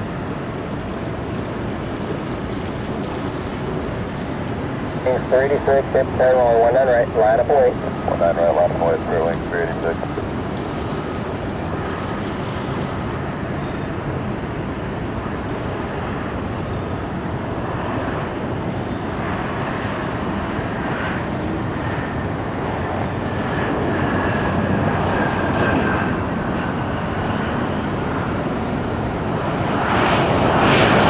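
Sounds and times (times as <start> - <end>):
faint high jet whine: 0.0 - 31.0
jet engines rushing: 0.0 - 31.0.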